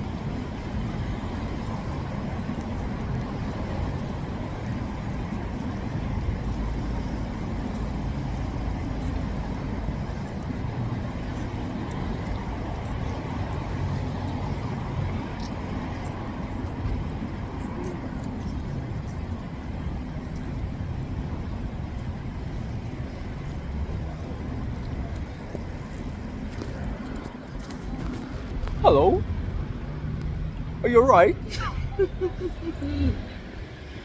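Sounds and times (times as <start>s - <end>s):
low rumble of vehicles: 0.0s - 34.0s.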